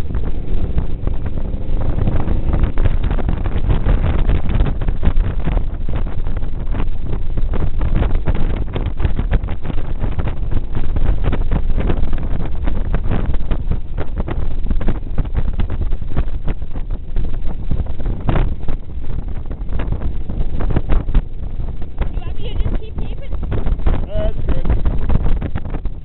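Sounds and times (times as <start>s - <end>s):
motorcycle engine drone: 0.0s - 26.0s
wind buffeting microphone: 0.0s - 26.0s.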